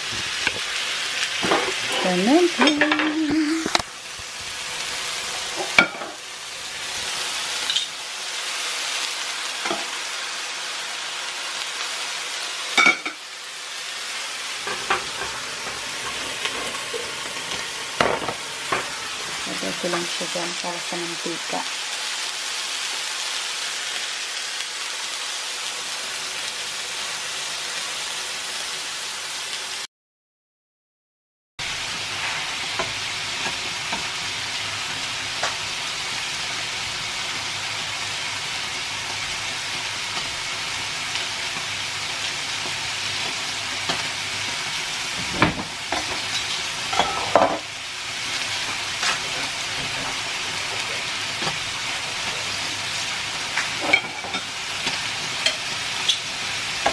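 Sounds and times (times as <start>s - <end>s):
steaks sizzling on a grill: 0.0s - 29.8s, 31.6s - 56.9s.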